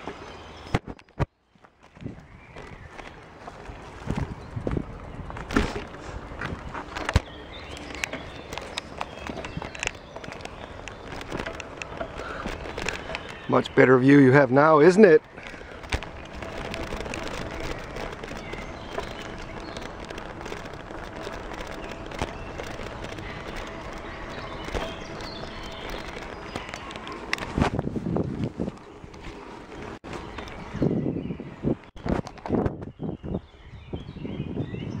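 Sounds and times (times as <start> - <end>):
bicycle rolling on trail: 0.0 - 34.9
birds chirping: 0.0 - 35.0
wind buffeting microphone: 1.9 - 35.0.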